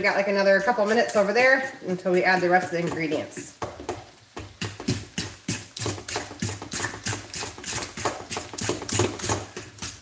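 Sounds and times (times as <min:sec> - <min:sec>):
fork beating batter in metal bowl: 0:00.6 - 0:10.0.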